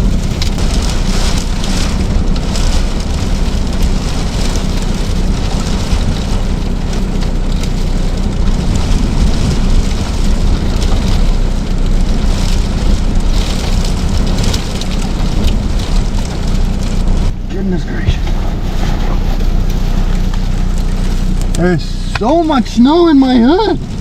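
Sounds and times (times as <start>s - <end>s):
wind buffeting microphone: 0.0s - 21.6s.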